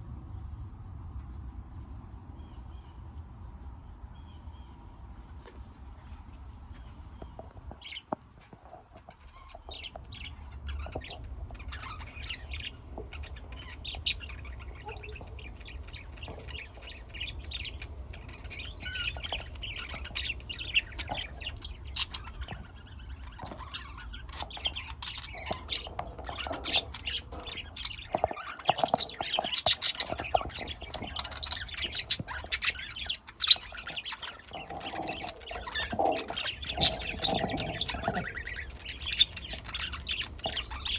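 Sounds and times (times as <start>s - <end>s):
birds chirping and squawking: 0.3s - 40.9s.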